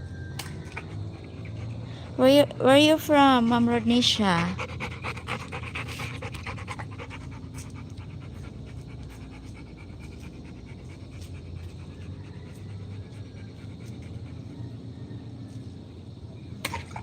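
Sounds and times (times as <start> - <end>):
dog panting: 0.8 - 2.6, 3.2 - 15.4.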